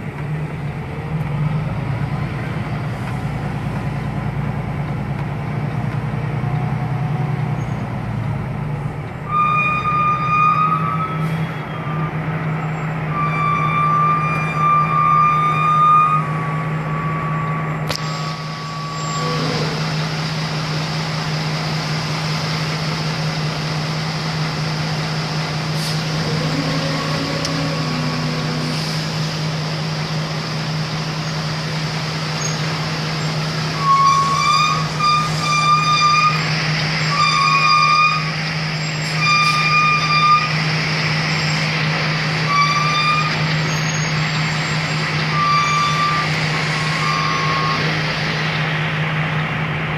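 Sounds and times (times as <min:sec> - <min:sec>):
truck engine droning: 0:00.0 - 0:49.9.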